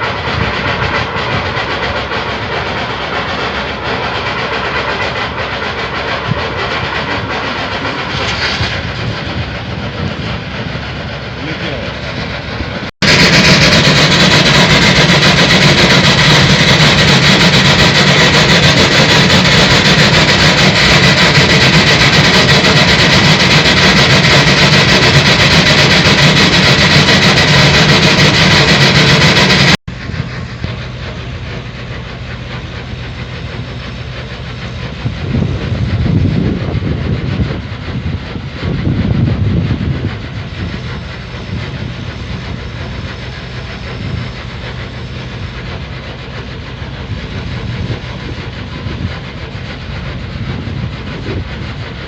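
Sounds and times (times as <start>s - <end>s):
rush of escaping gas: 0.0s - 45.6s
low engine hum: 0.0s - 52.0s.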